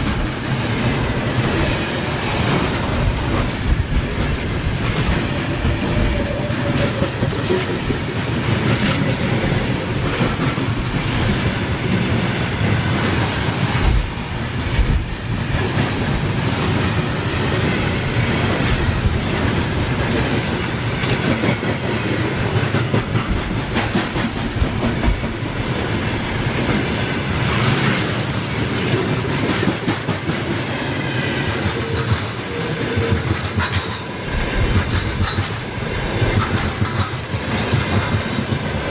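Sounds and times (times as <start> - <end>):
train wheels clattering over rail joints: 0.0 - 38.9.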